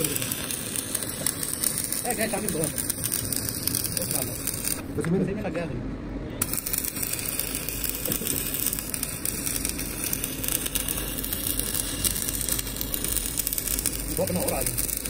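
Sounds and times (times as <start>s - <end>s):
welding arc crackling: 0.0s - 5.0s, 6.4s - 15.0s.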